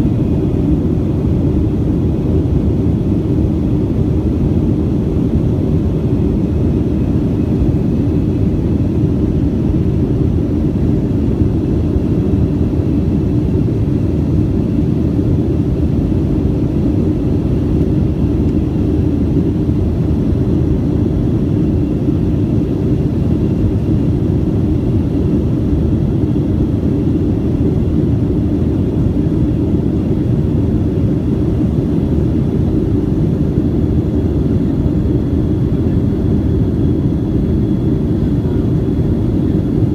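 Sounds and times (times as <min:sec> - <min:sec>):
airliner engine and airflow rumble: 0:00.0 - 0:39.9.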